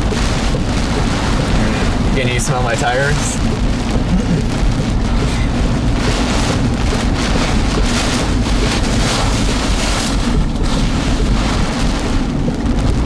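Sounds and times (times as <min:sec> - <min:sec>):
car rumbling on road: 0:00.0 - 0:13.0
wind and rain against car: 0:00.0 - 0:13.0.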